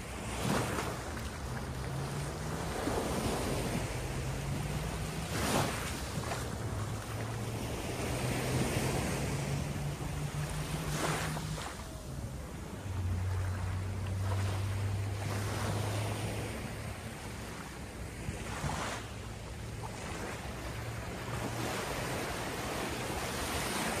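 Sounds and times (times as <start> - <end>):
sea waves washing over pebbles: 0.0 - 24.0.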